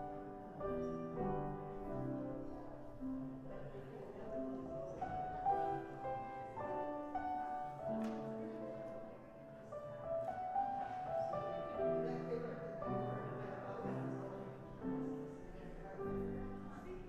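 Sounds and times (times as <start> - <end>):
slow keyboard music: 0.0 - 17.0.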